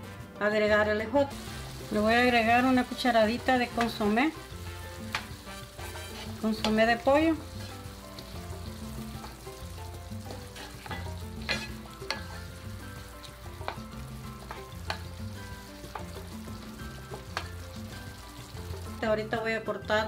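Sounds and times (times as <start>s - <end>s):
vegetables sizzling in a skillet: 0.0s - 20.0s
wooden spoon stirring: 1.3s - 19.0s.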